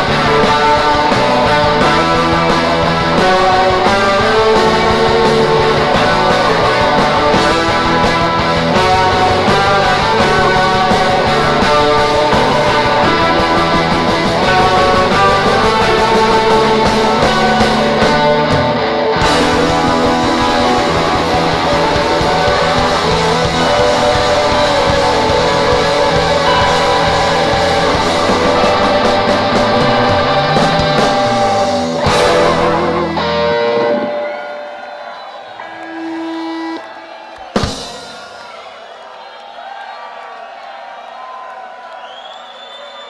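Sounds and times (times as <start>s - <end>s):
electric guitar: 0.0s - 37.0s
live rock band playing: 0.0s - 38.4s.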